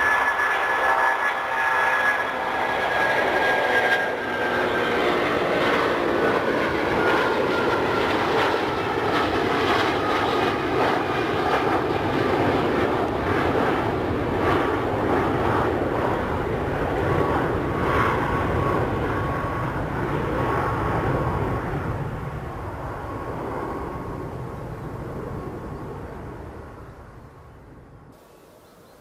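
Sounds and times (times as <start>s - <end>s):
jet engines roaring: 0.0s - 28.3s.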